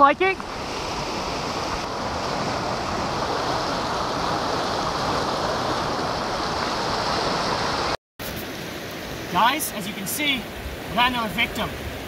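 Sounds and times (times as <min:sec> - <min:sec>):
creek rushing over rocks: 0:00.4 - 0:12.0.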